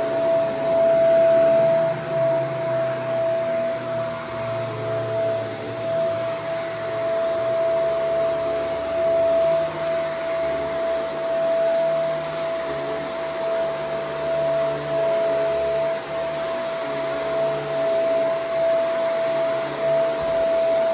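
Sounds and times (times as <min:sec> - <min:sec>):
vacuum cleaner on carpet: 0:00.0 - 0:20.9.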